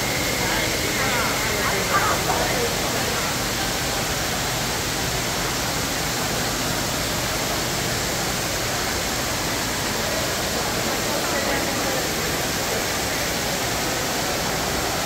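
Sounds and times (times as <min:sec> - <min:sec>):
fountain water rushing: 0:00.0 - 0:15.0.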